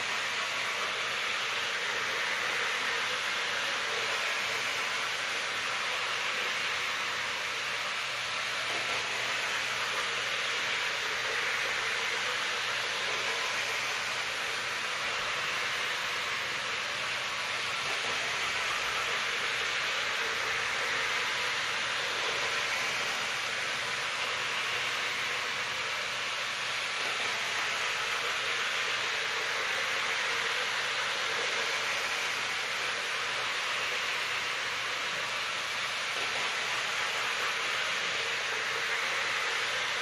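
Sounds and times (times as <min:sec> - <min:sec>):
model trains whirring on rails: 0:00.0 - 0:40.0.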